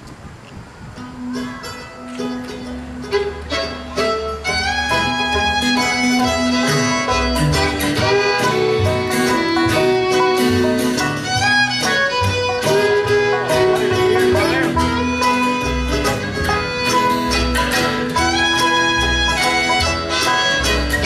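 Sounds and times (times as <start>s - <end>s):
upright bass: 0.0s - 21.0s
acoustic guitar: 0.8s - 21.0s
fiddle melody: 0.9s - 21.0s
banjo: 1.2s - 21.0s.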